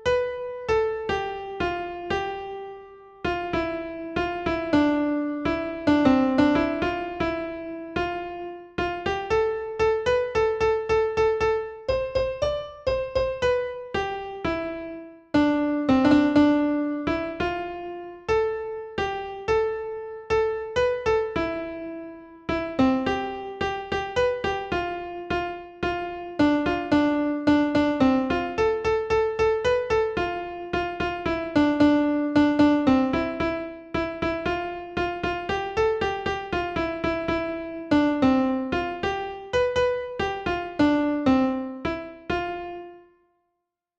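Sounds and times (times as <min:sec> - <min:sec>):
piano-like keyboard music: 0:00.0 - 0:43.3.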